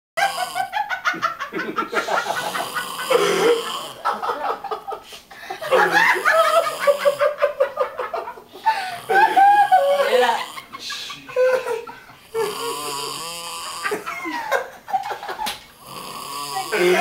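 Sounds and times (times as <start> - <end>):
stifled laughter: 0.2 - 15.5.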